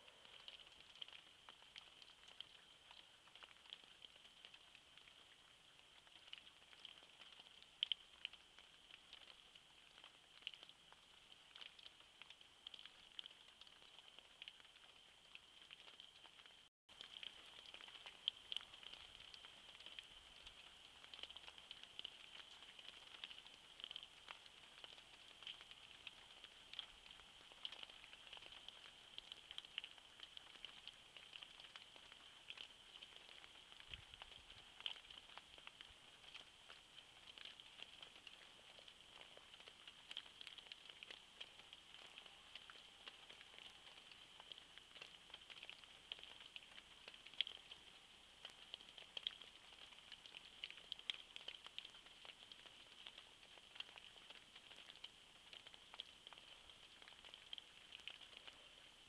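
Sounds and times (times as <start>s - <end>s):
soft ticks: 0.0s - 58.6s
steady high-pitched hiss: 0.0s - 59.0s.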